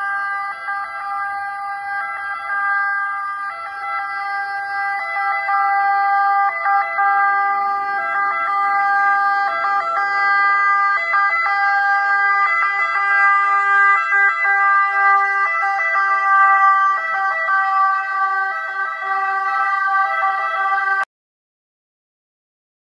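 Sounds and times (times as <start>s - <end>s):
ambulance siren: 0.0s - 21.1s.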